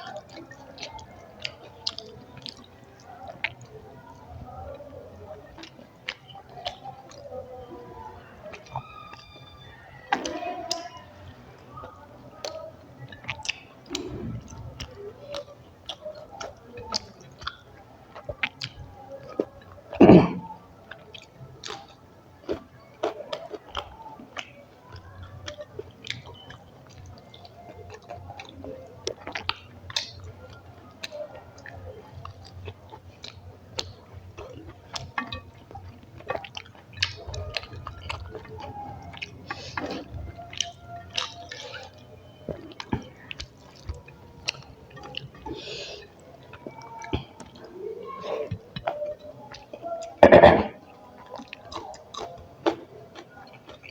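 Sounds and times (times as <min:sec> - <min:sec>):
chewing and wet mouth sounds: 0:00.0 - 0:53.9.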